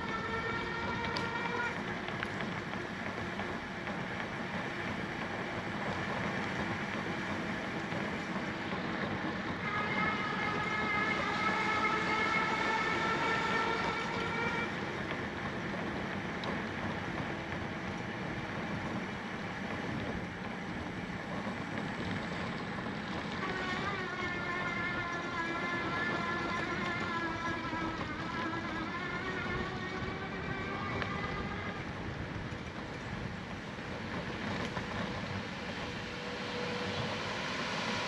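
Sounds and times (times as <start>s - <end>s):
wind and bicycle rolling: 0.1s - 9.6s, 14.1s - 36.1s.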